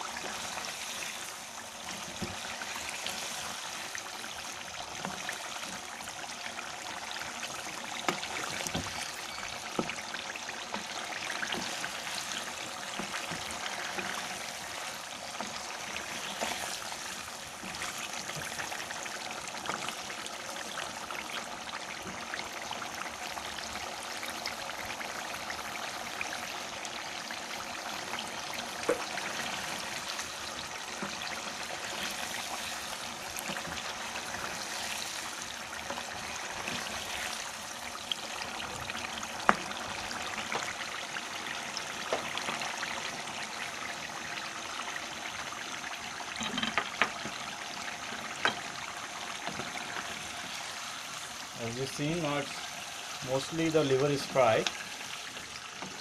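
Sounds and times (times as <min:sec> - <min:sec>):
livers sizzling in oil: 0:00.0 - 0:56.0.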